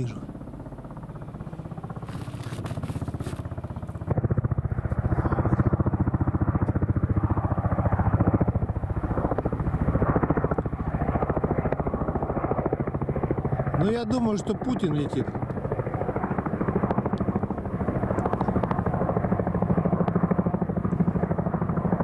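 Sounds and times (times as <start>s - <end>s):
helicopter engine noise: 0.0s - 22.0s
helicopter rotor chopping: 0.0s - 22.0s.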